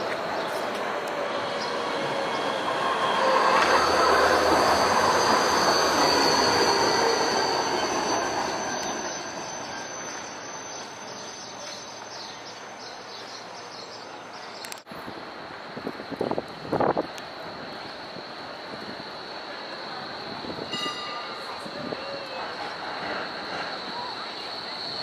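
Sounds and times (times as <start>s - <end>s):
tram wheels squealing on rails: 0.0s - 13.5s, 15.6s - 25.0s.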